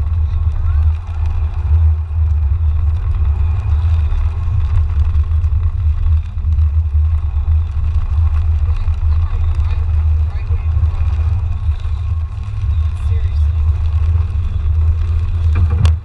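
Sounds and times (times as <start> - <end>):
car interior low rumble: 0.0 - 16.0.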